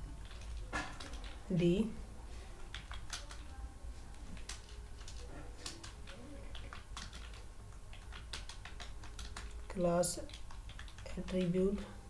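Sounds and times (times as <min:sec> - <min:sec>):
low steady hum: 0:00.0 - 0:12.0
keyboard typing: 0:00.2 - 0:01.5, 0:02.6 - 0:03.6, 0:04.2 - 0:12.0.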